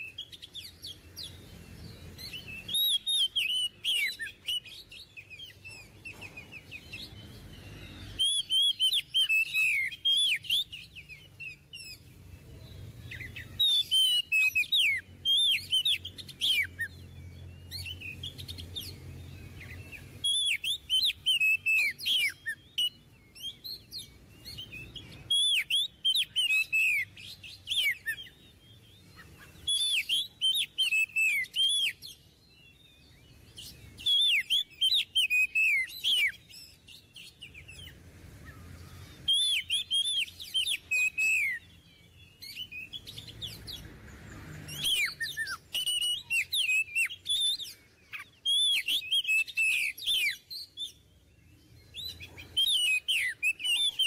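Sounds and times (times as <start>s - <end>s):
magpie-robin singing: 0.0s - 54.0s.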